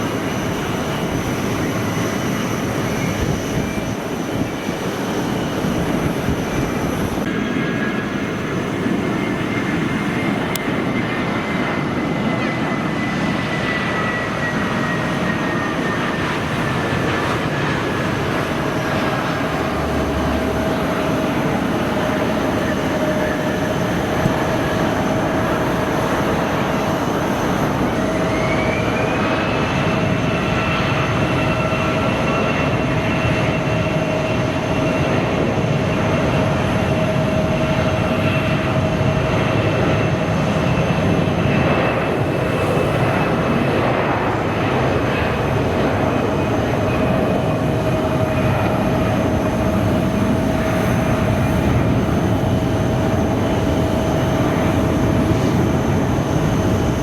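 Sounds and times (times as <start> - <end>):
jet engine whine: 0.0 - 57.0
jet engines running: 0.0 - 57.0.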